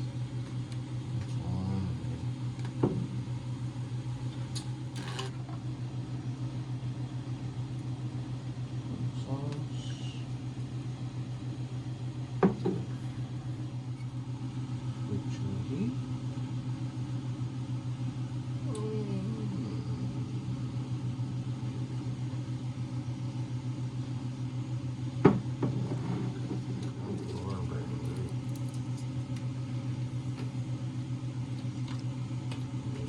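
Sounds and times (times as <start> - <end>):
pulsing low hum: 0.0 - 33.0.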